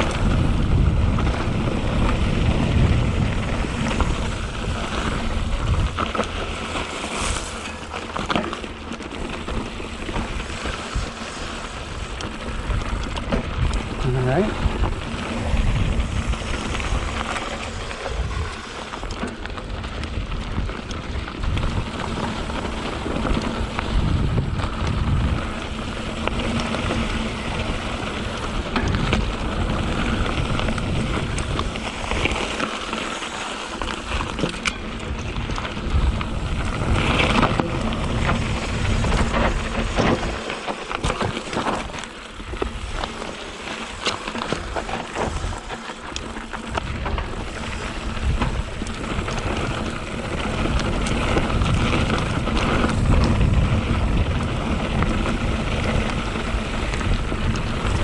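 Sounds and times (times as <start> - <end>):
wind on microphone: 0.0 - 7.9, 9.4 - 33.0, 33.7 - 58.0
bike rattling: 0.0 - 58.0
tyres crunching over gravel: 0.0 - 58.0.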